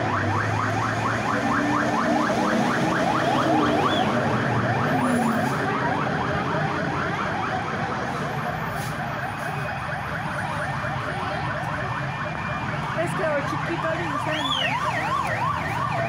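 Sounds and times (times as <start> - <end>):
emergency siren yelping: 0.0 - 16.0.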